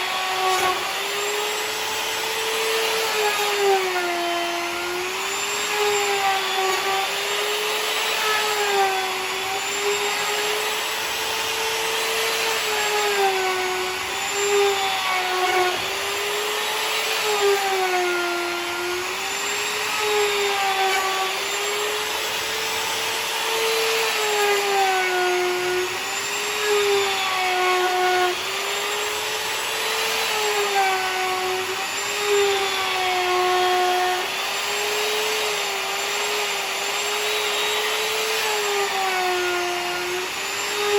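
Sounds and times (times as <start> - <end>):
router milling wood: 0.0 - 40.9.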